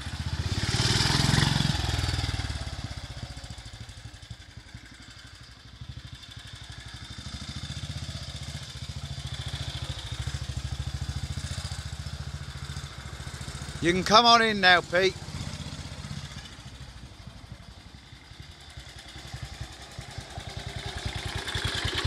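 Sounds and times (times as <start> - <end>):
motorcycle engine passing: 0.0 - 4.5, 5.4 - 22.0.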